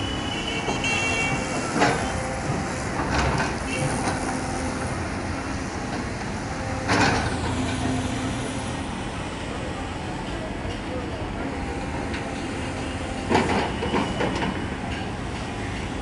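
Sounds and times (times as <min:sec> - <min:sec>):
excavator engine drone: 0:00.0 - 0:16.0
road traffic: 0:00.0 - 0:16.0.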